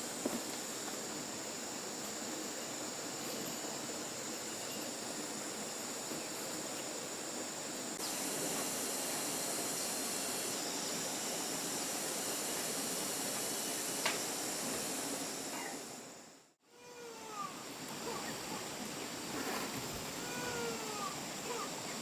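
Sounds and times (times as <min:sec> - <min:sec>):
even outdoor hiss: 0:00.0 - 0:22.0.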